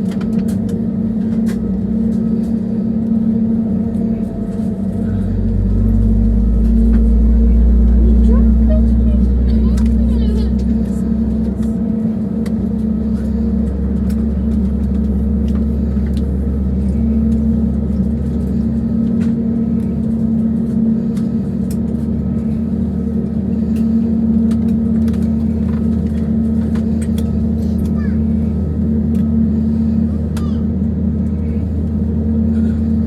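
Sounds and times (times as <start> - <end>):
jet engine drone in cabin: 0.0 - 33.0.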